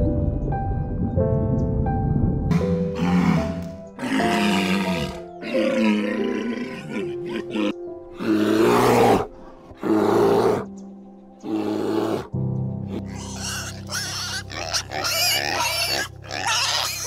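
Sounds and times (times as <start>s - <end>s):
background music: 0.0s - 17.0s
walrus bellowing: 2.6s - 10.8s, 11.4s - 17.0s.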